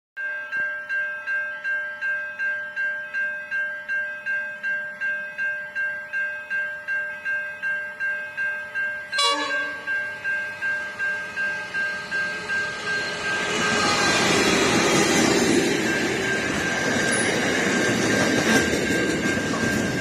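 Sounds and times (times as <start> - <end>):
level-crossing bell ringing: 0.2 - 20.0.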